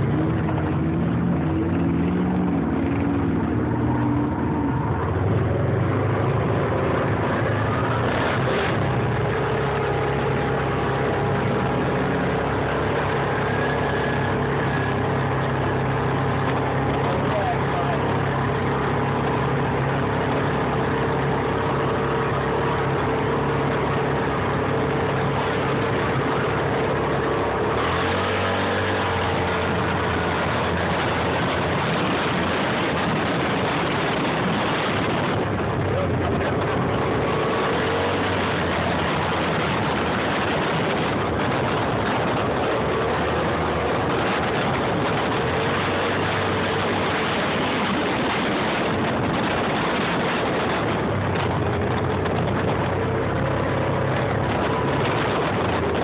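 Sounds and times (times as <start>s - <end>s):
off-road vehicle engine running: 0.0s - 56.0s
steady rushing noise: 0.0s - 56.0s.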